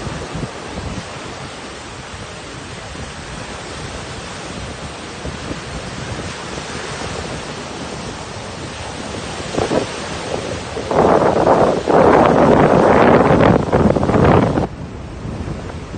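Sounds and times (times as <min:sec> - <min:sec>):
sea surf breaking: 0:00.0 - 0:15.9
wind buffeting microphone: 0:00.0 - 0:15.9.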